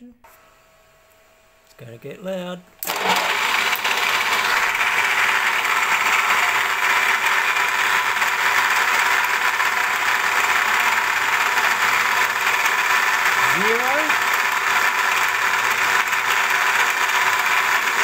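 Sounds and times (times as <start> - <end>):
milling machine cutting steel: 2.8 - 18.0.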